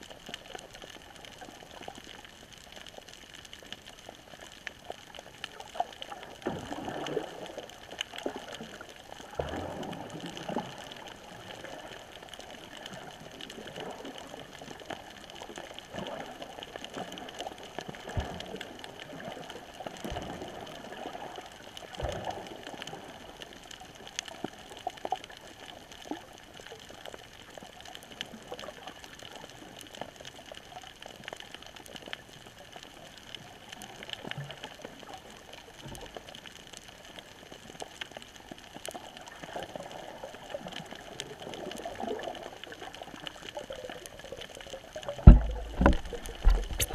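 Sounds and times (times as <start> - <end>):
faint underwater clicks and crackles: 0.0 - 46.9
underwater water movement: 0.0 - 46.9
water swishes: 0.0 - 46.9.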